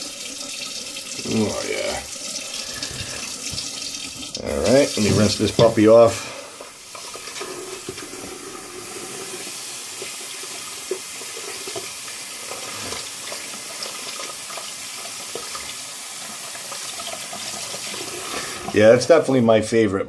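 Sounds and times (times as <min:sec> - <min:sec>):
tap water running into sink: 0:00.0 - 0:19.0
water splashing: 0:00.0 - 0:19.0.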